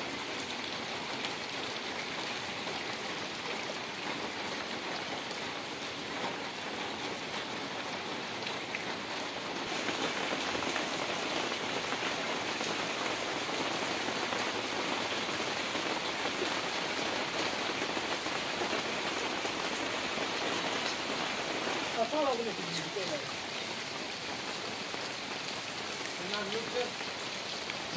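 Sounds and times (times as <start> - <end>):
heavy rain on water: 0.0 - 27.9.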